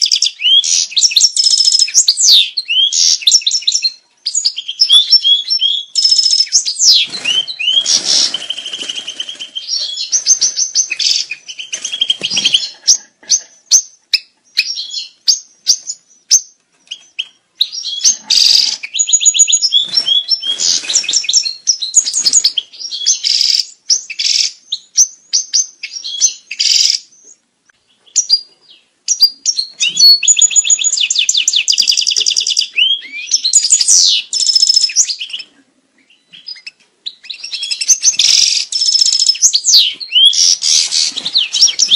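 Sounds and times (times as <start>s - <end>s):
goldfinch singing: 0.0s - 13.1s, 13.7s - 41.9s.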